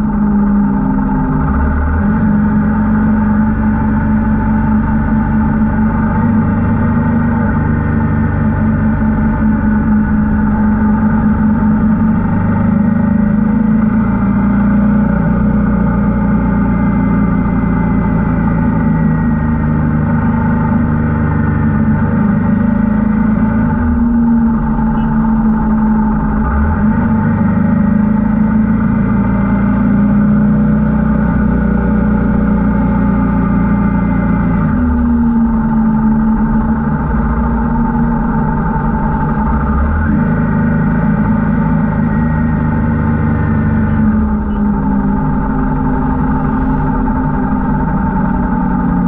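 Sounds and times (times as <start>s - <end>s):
motorcycle engine droning: 0.0s - 49.0s.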